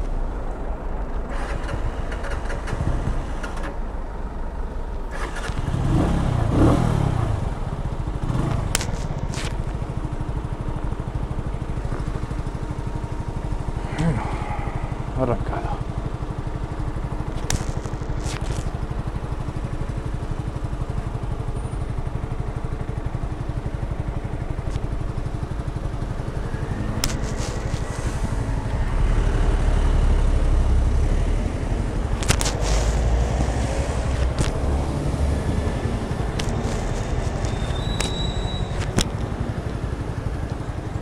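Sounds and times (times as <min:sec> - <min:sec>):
motorcycle engine running: 0:00.2 - 0:41.0.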